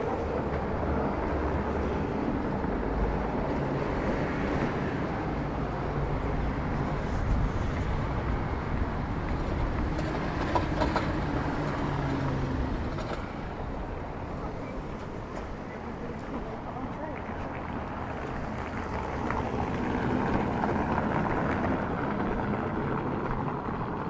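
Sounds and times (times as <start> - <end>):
low engine hum: 0.0 - 24.0
motor traffic: 0.0 - 24.0.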